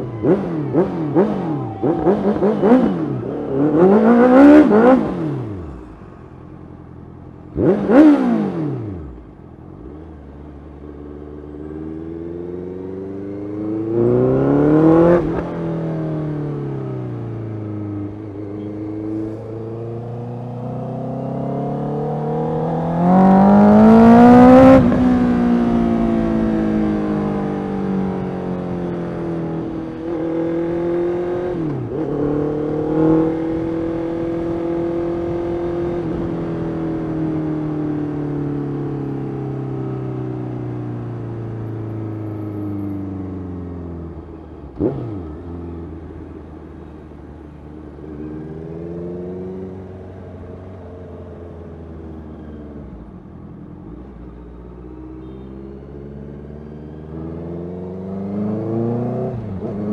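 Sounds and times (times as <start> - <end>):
motorcycle engine revving: 0.0 - 5.8, 7.4 - 46.4, 56.1 - 59.9.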